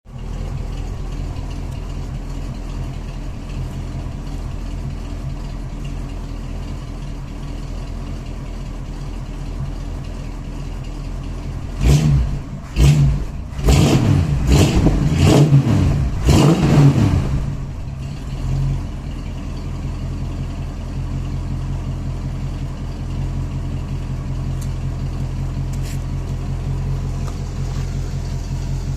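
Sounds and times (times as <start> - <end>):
car engine idling: 0.0 - 28.9
engine throttle blips: 0.1 - 28.9.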